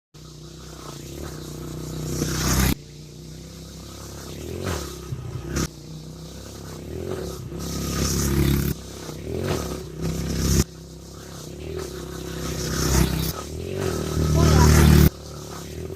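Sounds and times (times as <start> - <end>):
dirt bike engine revving: 0.2 - 15.9.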